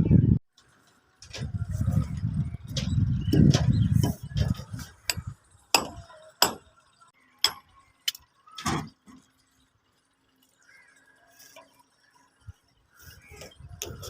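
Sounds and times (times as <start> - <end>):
faint scattered sounds: 0.5 - 14.0.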